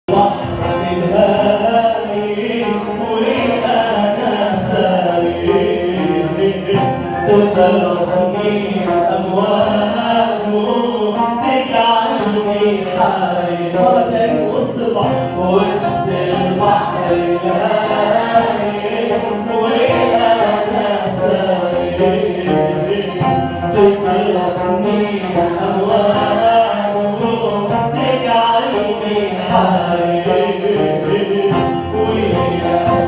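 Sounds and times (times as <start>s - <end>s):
choir singing a hymn: 0.1s - 33.0s
light percussion: 0.1s - 33.0s.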